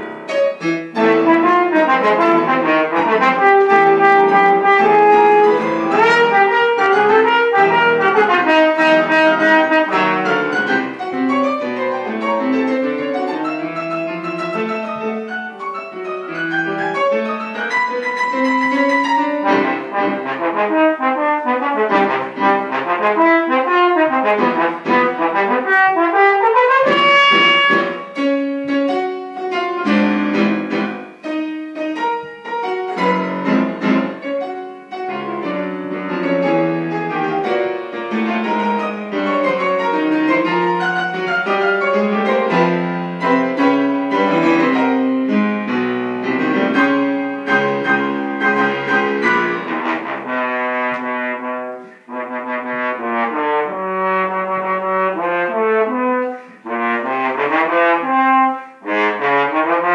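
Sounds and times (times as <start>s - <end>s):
piano accompaniment: 0.0s - 59.9s
trombone melody: 0.0s - 59.9s.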